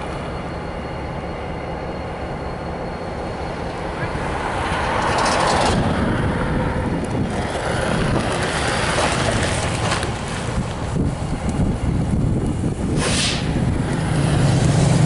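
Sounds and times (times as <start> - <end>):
heavy vehicle rumble: 0.0 - 15.0.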